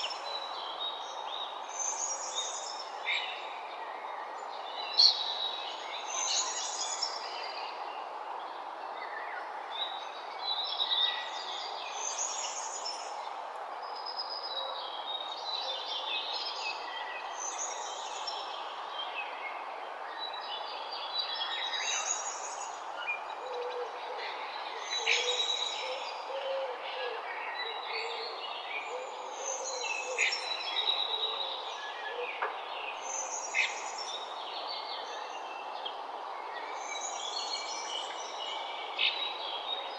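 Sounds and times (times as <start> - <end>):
outdoor background hiss: 0.0 - 39.9
songbirds singing and chirping: 0.0 - 39.9.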